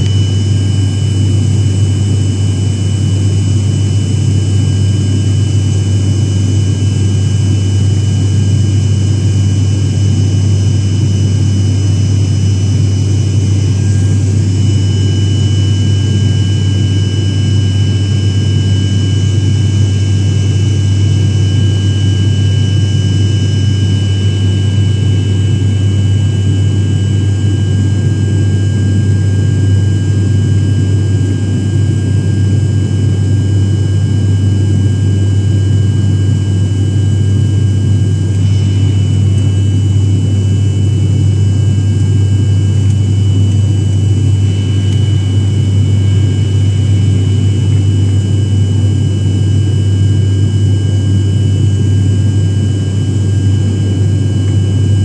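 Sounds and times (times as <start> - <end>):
airliner engine drone: 0.0 - 55.0.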